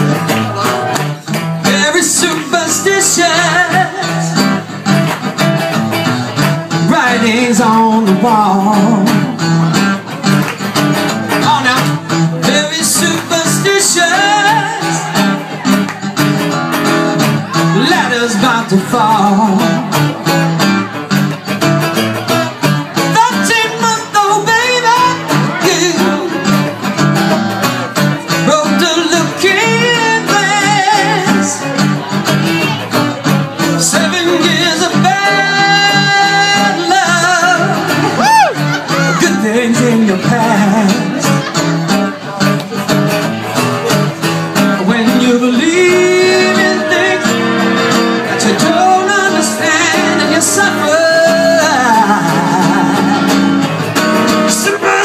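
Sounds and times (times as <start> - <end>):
man singing into microphone: 0.0 - 4.9, 6.6 - 9.8, 11.3 - 15.8, 17.2 - 20.3, 22.9 - 27.0, 28.2 - 42.5, 44.6 - 55.0
acoustic guitar strumming: 0.0 - 55.0.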